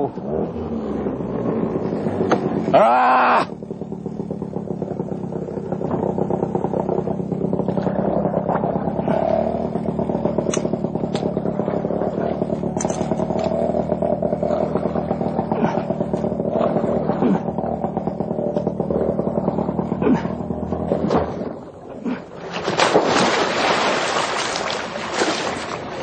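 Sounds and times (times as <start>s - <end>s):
engine running at high revs: 0.0s - 26.0s.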